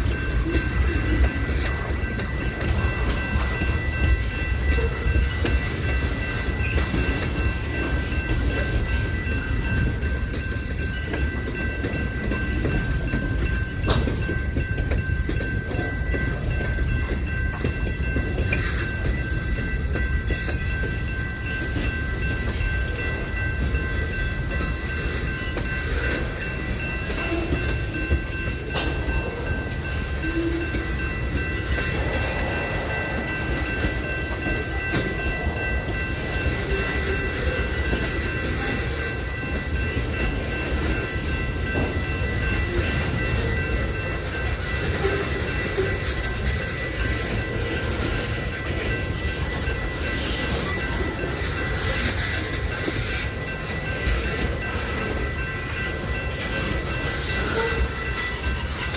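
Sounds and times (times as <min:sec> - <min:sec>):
clacks over rail joints: 0:00.0 - 0:58.9
train wheels rumbling on rails: 0:00.0 - 0:58.9.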